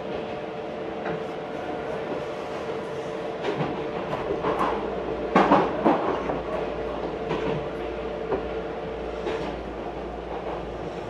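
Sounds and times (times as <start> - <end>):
train interior rumble and hum: 0.0 - 11.0.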